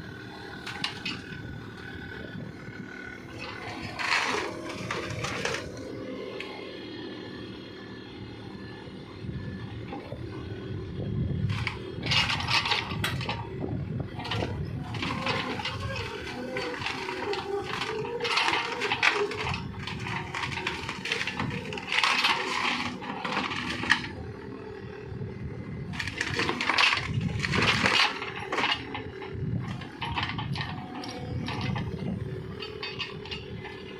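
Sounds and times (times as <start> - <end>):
excavator engine running: 0.0 - 33.9
metallic clanking and scraping: 0.5 - 6.6, 11.4 - 25.0, 25.9 - 33.9.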